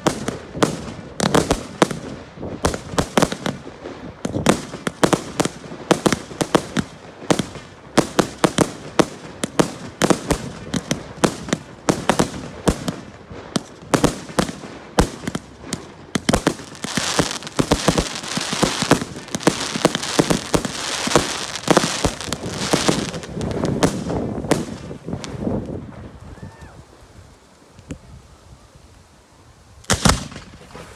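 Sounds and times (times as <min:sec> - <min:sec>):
fireworks bangs: 0:00.0 - 0:26.7, 0:29.8 - 0:30.9
fireworks crackling fizz: 0:00.0 - 0:28.2.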